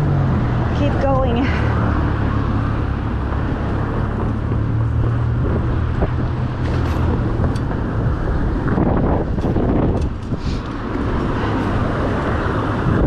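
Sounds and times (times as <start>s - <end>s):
motor vehicle engine humming: 0.0s - 13.0s
road traffic: 0.0s - 13.0s
wind rush: 0.0s - 13.0s.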